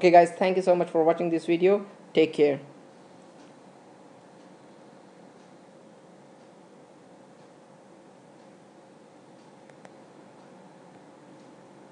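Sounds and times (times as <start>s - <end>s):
faint hum: 0.0s - 11.9s
microphone hiss: 0.0s - 11.9s.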